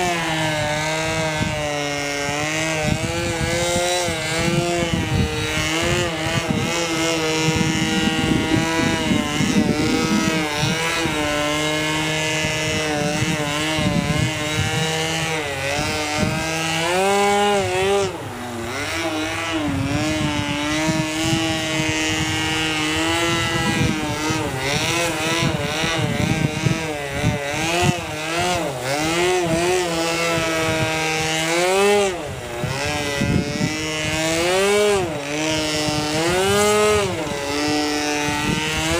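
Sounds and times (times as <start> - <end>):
model airplane engine: 0.0 - 38.9
wind rumble on microphone: 0.0 - 38.9.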